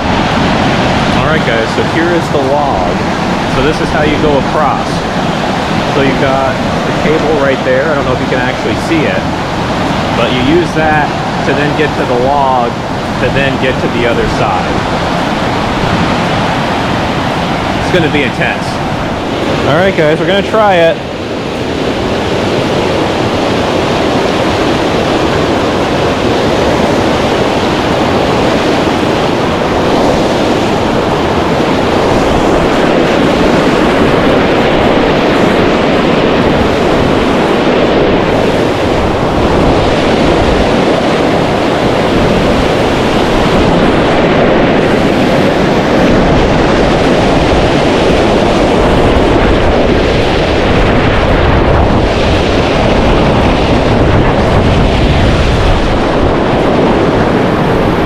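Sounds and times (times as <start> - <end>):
fast river rushing: 0.0 - 58.0
wind buffeting microphone: 0.0 - 58.0.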